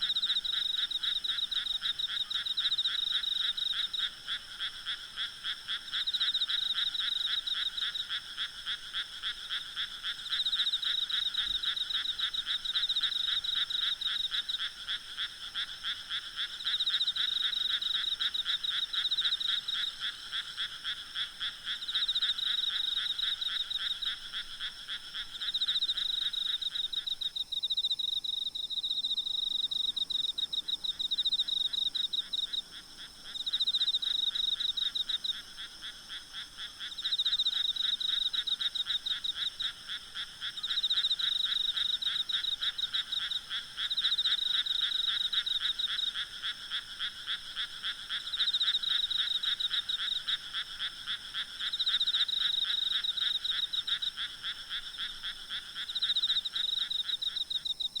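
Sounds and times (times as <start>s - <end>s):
frogs and insects trilling: 0.0s - 58.0s.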